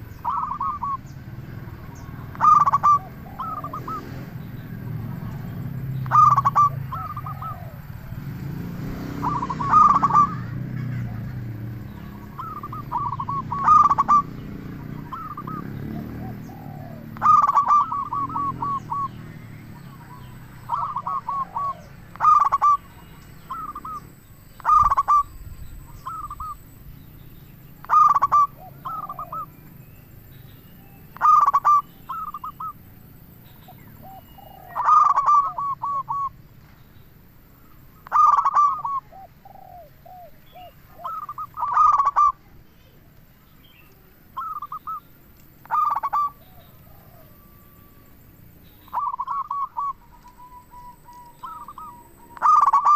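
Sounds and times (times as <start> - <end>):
dove cooing: 0.0 - 27.0, 27.7 - 29.6, 31.0 - 33.0, 33.6 - 36.4, 38.0 - 42.5, 44.3 - 45.0, 45.6 - 52.9.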